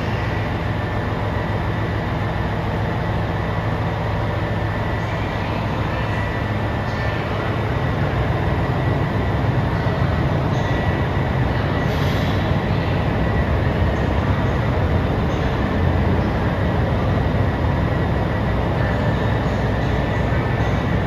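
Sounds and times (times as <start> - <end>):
diesel train running: 0.0 - 21.0.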